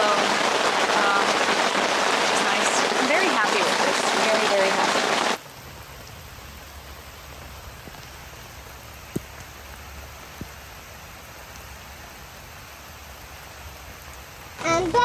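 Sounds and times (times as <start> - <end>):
rain falling on trees: 0.0 - 15.0.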